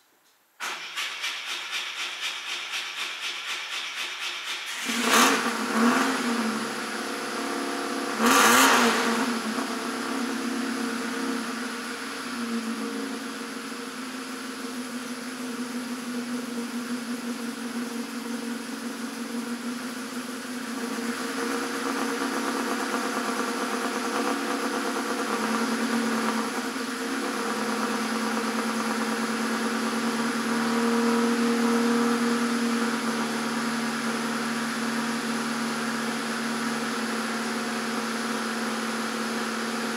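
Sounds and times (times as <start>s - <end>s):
car engine revving and idling: 4.7s - 39.9s.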